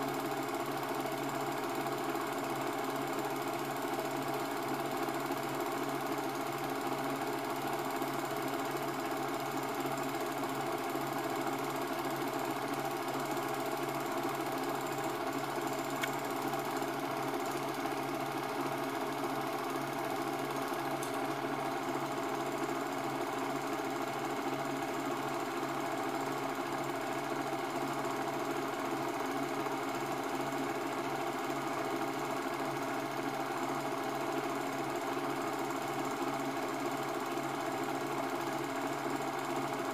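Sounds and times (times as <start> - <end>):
film projector clatter: 0.0 - 39.9.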